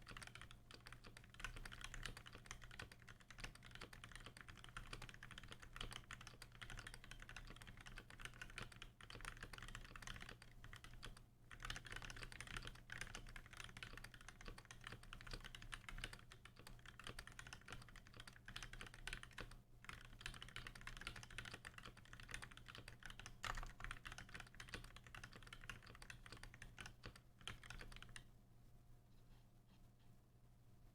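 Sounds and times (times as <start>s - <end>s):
fast typing on mechanical keyboard: 0.0s - 28.3s.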